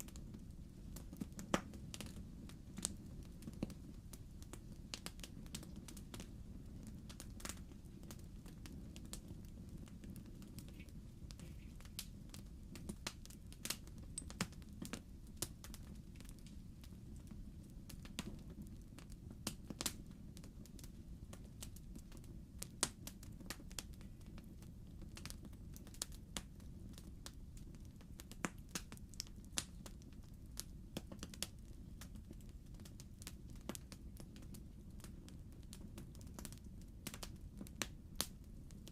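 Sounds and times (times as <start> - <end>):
flames rumbling: 0.0 - 38.9
wood fire crackling: 0.0 - 38.9.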